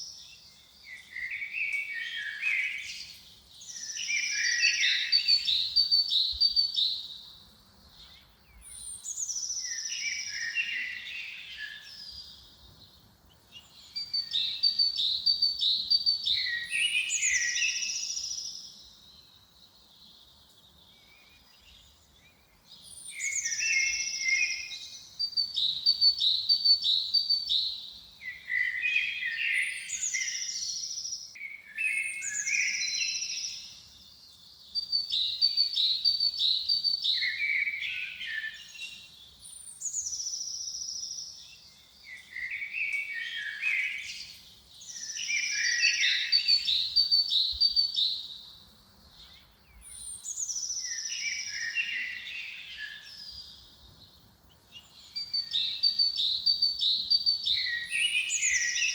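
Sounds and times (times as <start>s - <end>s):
songbird singing: 0.0s - 58.9s.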